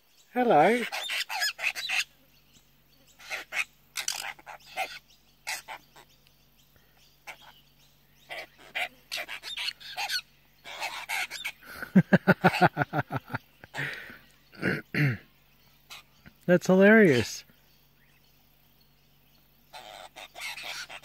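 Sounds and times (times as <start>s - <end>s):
birds harsh grating calls: 0.0s - 21.0s.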